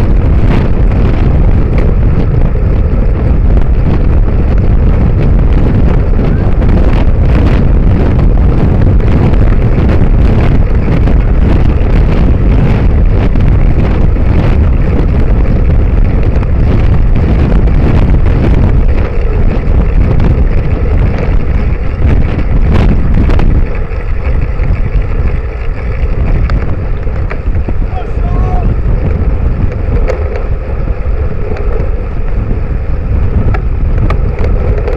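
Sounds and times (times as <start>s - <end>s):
low road rumble: 0.0s - 34.9s
wind buffeting microphone: 0.0s - 34.9s.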